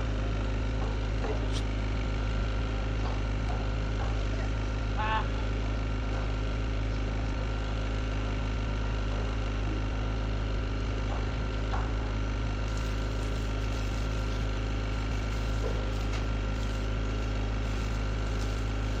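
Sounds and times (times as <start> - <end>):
excavator diesel engine idling: 0.0 - 19.0.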